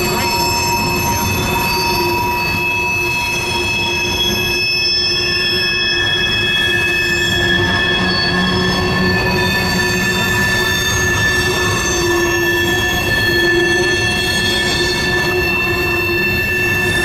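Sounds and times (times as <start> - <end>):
low rumble of train wheels: 0.0 - 17.0
train wheels squealing on rails: 0.0 - 17.0.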